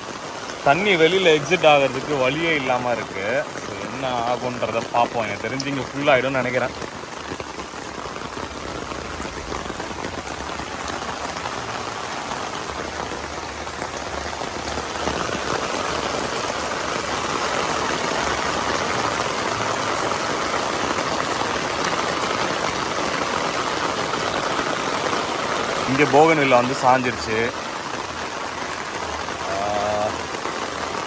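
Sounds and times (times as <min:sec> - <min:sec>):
heavy rain on standing water: 0:00.0 - 0:31.0.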